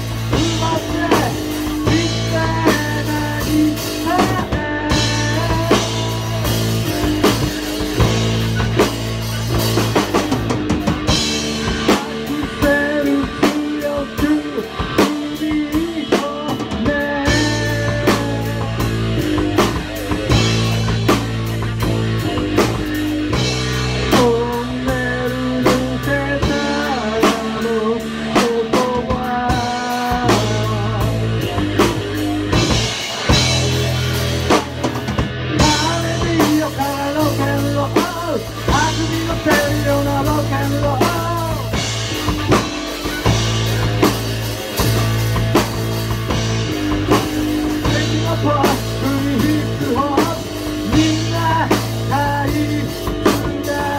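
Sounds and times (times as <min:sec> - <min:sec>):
drum kit: 0:00.0 - 0:53.9
electric bass: 0:00.0 - 0:53.9
electric guitar: 0:00.0 - 0:53.9.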